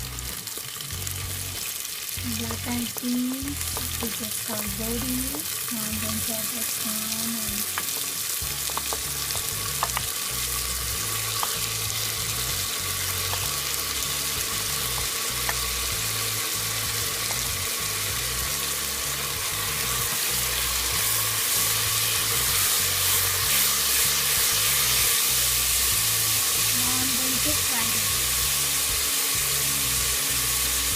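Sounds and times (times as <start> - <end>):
oil sizzling: 0.0 - 30.9.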